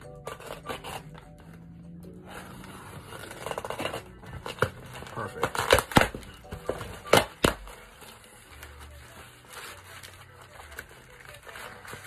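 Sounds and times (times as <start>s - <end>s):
rustling of cardboard and plastic: 2.2s - 12.0s.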